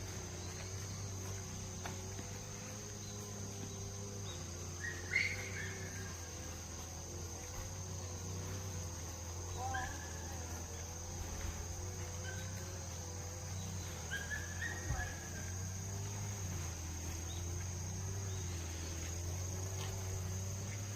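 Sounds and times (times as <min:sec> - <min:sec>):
crickets chirring: 0:00.0 - 0:20.9.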